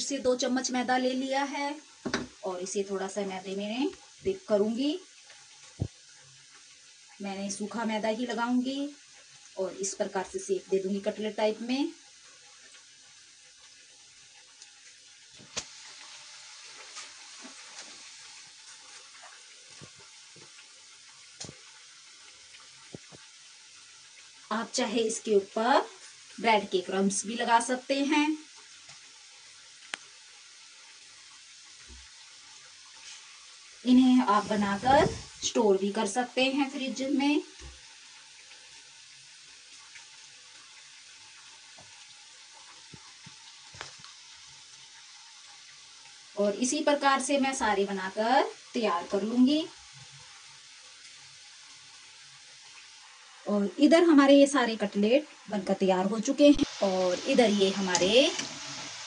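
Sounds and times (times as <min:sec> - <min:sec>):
cutlets sizzling in hot oil: 0:00.0 - 0:59.0.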